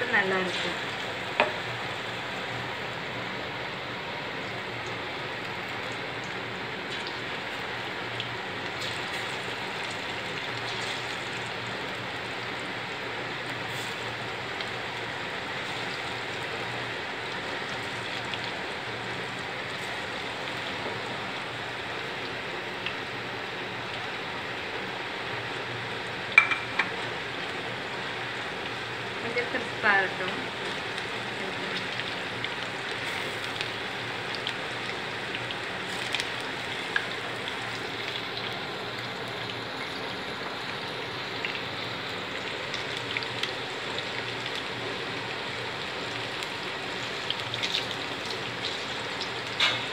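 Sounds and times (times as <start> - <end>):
deep-frying sizzle in hot oil: 0.0 - 49.9.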